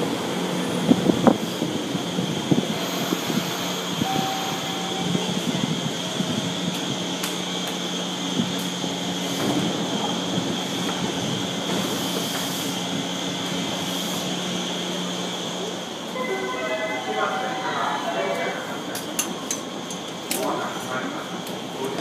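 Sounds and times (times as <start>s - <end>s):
train hum and rumble: 0.0s - 22.0s.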